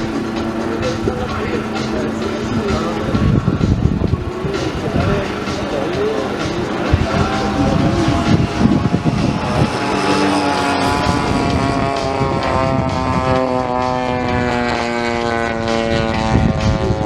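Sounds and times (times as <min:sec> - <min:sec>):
model plane engine and propeller: 0:00.0 - 0:17.0.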